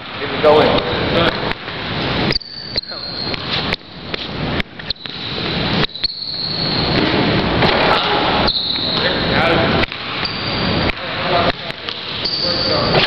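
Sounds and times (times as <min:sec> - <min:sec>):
dense noisy background: 0:00.0 - 0:13.0.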